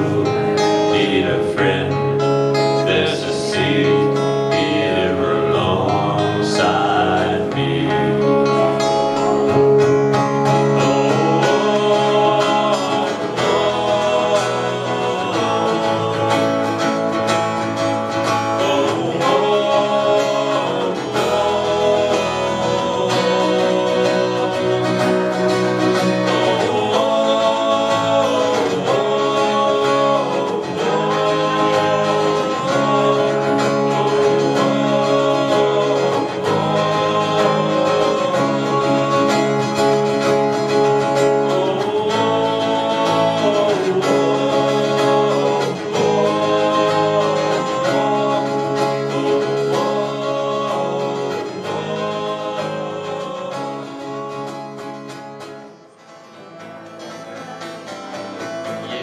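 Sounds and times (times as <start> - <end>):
man singing: 0.0 - 55.2, 58.7 - 59.0
acoustic guitars strummed: 0.0 - 59.0.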